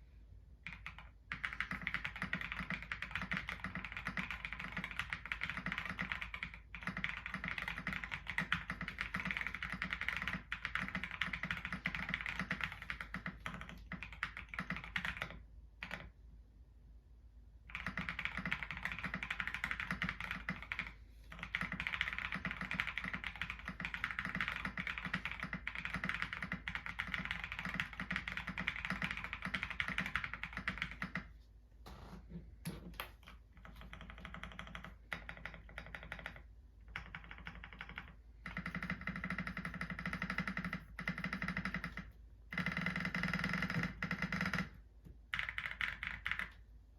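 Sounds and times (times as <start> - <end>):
mechanical keyboard typing: 0.6 - 16.1, 17.7 - 31.3, 33.0 - 46.6.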